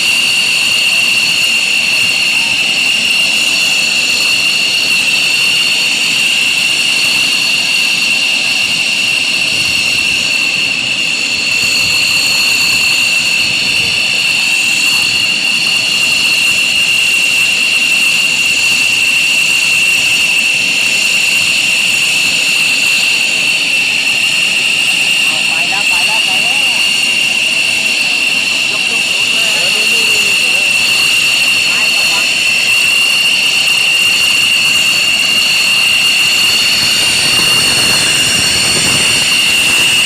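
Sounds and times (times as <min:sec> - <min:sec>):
jet engine turbine whine: 0:00.0 - 0:40.0.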